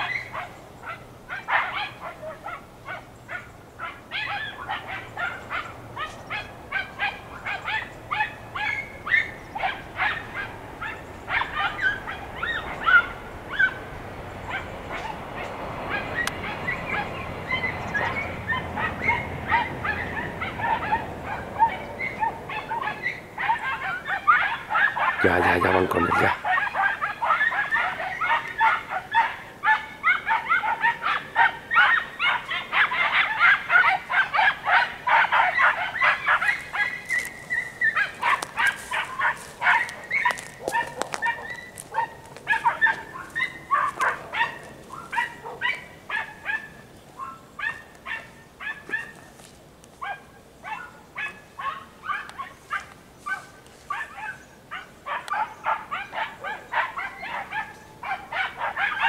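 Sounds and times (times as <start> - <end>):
dogs yelping barks: 0.0 - 59.0.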